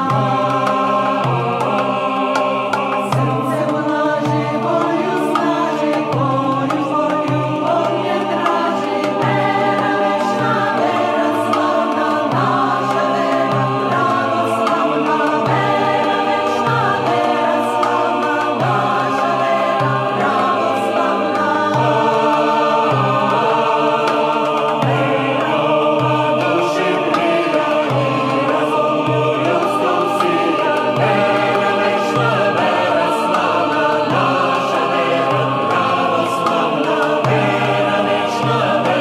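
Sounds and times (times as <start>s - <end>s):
choir singing sustained chords: 0.0s - 39.0s.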